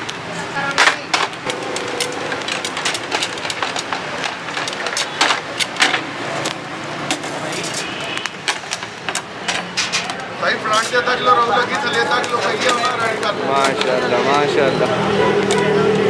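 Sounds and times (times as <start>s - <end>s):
metal skewers clinking and scraping: 0.8s - 16.0s.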